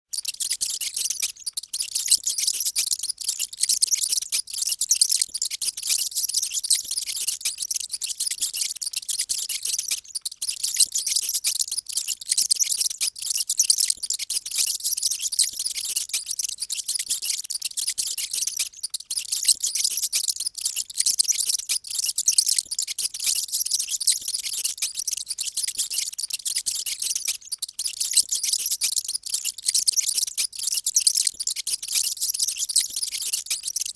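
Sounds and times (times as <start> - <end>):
mice squeaking: 0.1 - 33.9.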